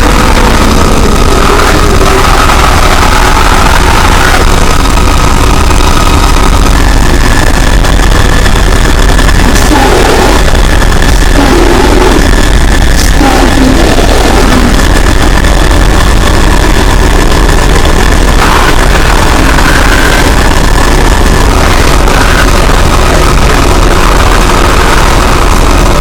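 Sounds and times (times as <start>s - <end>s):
harsh distorted roar: 0.0s - 26.0s.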